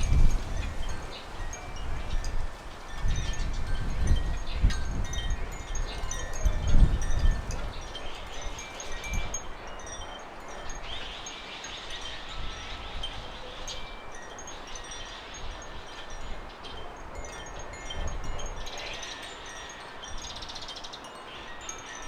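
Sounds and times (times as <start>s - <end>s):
wind gusting on microphone: 0.0s - 22.0s.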